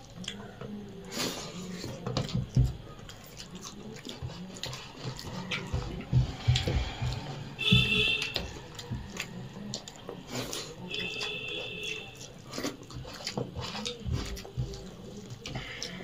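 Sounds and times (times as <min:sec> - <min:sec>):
people chewing: 0:00.0 - 0:16.0.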